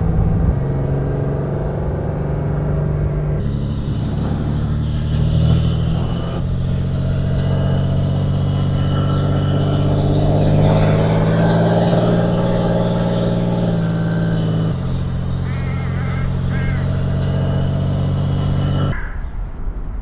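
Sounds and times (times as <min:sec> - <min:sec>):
car engine running at steady revs: 0:02.6 - 0:18.9.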